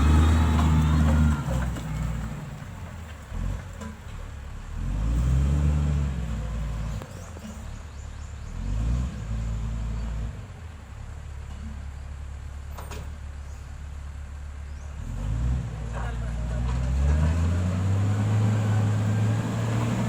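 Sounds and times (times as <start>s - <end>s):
diesel engine revving: 0.0s - 11.4s, 14.1s - 20.0s.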